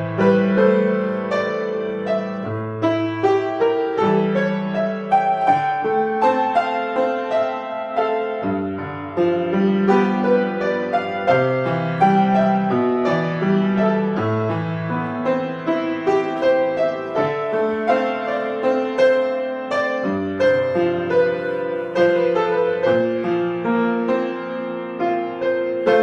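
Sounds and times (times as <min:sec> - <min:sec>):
solo piano playing: 0:00.0 - 0:26.0.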